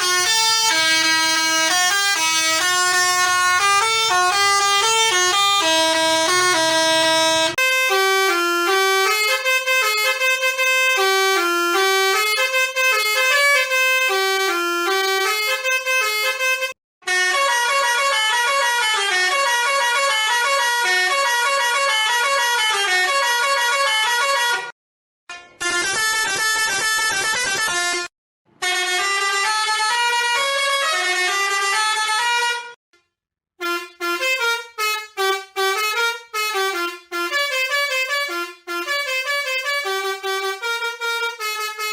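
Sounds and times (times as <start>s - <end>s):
musical air horn melodies: 0.0s - 24.7s, 25.3s - 32.8s, 33.6s - 41.9s.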